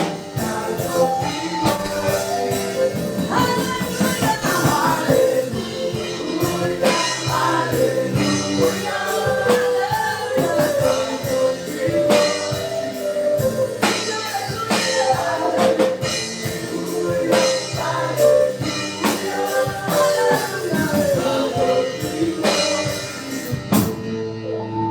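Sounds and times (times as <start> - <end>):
voices singing gospel: 0.0 - 23.9
drum kit beat: 0.0 - 24.2.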